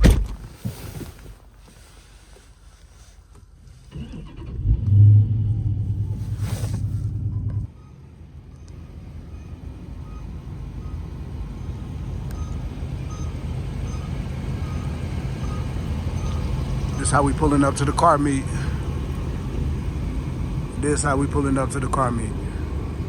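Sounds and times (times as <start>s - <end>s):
car engine accelerating: 3.9s - 23.0s.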